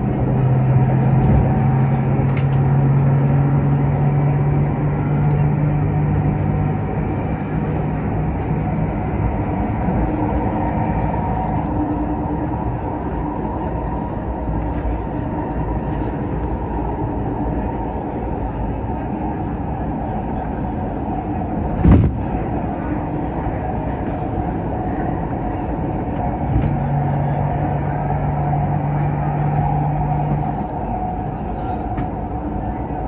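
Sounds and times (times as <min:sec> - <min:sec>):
train hum and rumble: 0:00.0 - 0:33.0.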